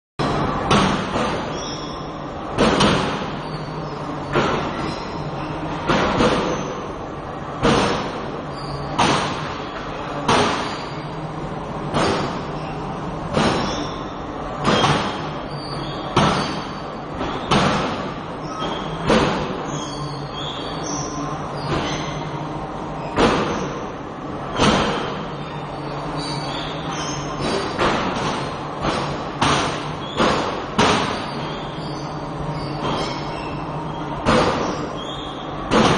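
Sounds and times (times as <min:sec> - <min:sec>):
steady low hum: 0:00.2 - 0:35.9.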